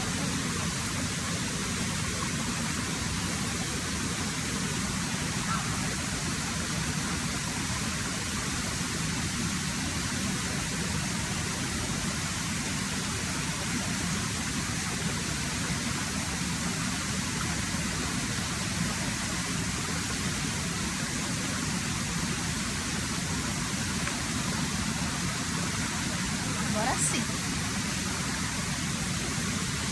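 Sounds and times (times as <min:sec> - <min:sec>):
rushing water: 0:00.0 - 0:29.9.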